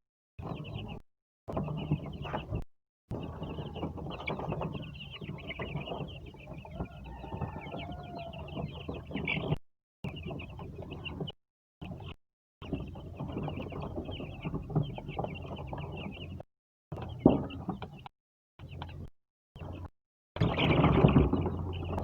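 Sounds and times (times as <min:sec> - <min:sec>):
chickens clucking: 0:00.4 - 0:16.4, 0:17.0 - 0:22.0.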